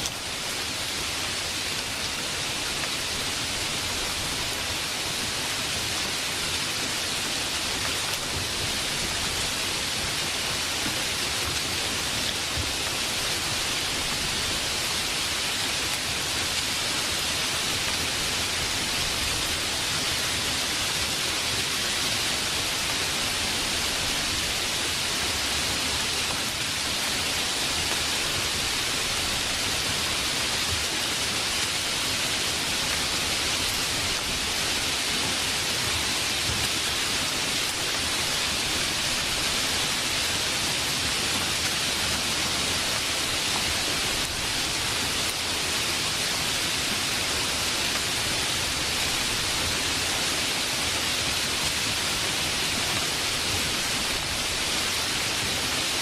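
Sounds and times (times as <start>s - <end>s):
heavy rain hiss: 0.0s - 56.0s.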